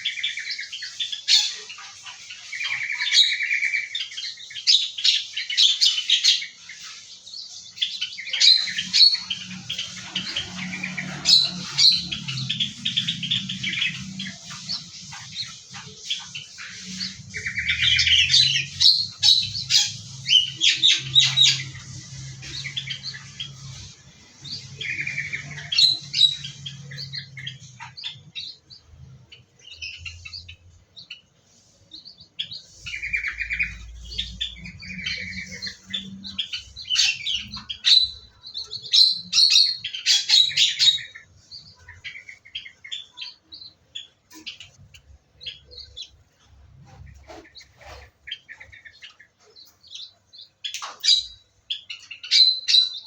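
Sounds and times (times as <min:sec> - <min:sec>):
small birds chirping and trilling: 0:00.0 - 0:53.0.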